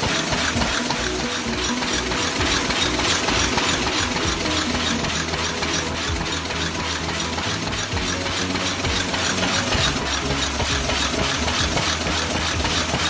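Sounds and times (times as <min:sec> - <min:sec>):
machine clattering clicks: 0:00.0 - 0:13.0.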